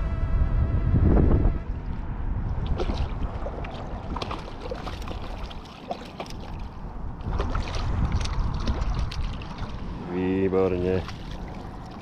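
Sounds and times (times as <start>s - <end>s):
wind rumble on microphone: 0.0s - 12.0s
light water splashing: 1.8s - 12.0s.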